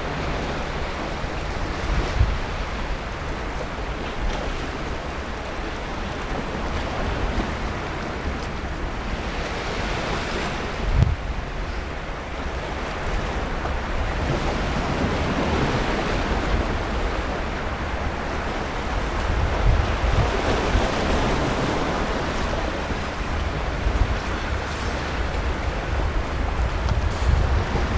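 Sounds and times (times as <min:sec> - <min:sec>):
surf washing onto beach: 0:00.0 - 0:27.9
wind rumbling on microphone: 0:00.0 - 0:27.9.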